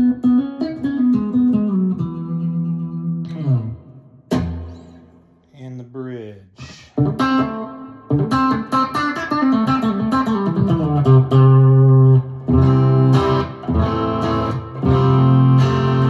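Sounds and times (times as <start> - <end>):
clean electric guitar: 0.0 - 5.4, 7.0 - 16.0.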